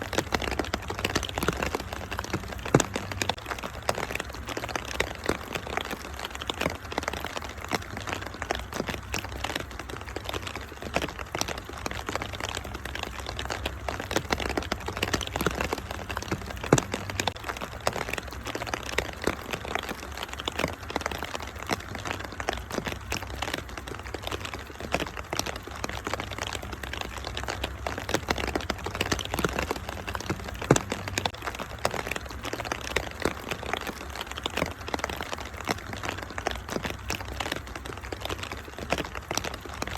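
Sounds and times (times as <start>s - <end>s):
rain hissing: 0.0s - 39.9s
wood fire crackling and popping: 0.0s - 39.9s.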